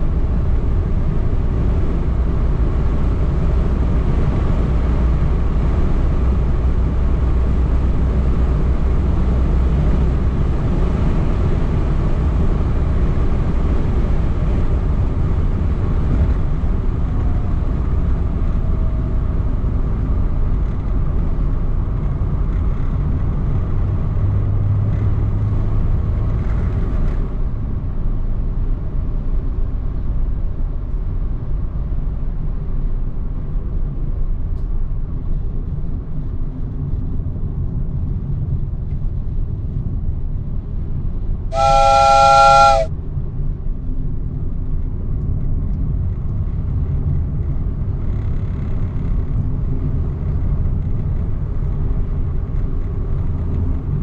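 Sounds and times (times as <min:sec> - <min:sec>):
car engine and tyre rumble: 0:00.0 - 0:41.5, 0:43.8 - 0:54.0.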